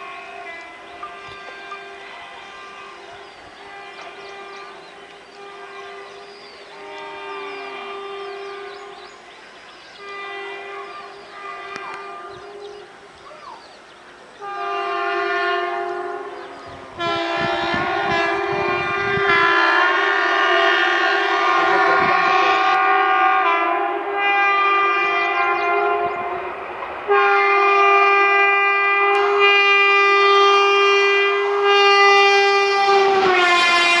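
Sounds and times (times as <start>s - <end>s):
locomotive horn blasts: 0.0s - 9.3s, 10.0s - 13.1s, 14.4s - 34.0s.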